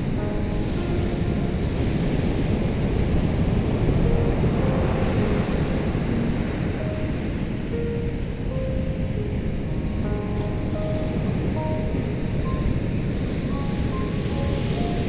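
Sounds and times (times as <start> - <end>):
ocean surf washing in: 0.0 - 15.0
soft faint music notes: 0.0 - 15.0.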